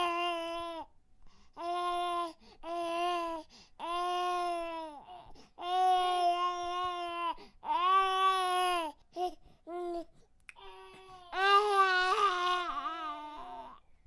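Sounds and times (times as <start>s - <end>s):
baby crying: 0.0s - 0.9s, 1.6s - 13.8s.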